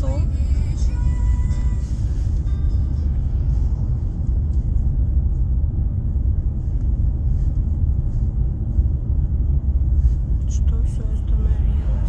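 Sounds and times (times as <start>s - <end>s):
low road and engine rumble: 0.0s - 12.0s.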